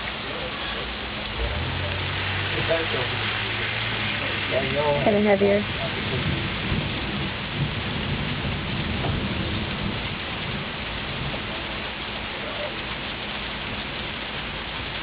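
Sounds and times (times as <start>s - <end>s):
heavy rain pouring: 0.0s - 15.0s
low rumble: 1.0s - 15.0s.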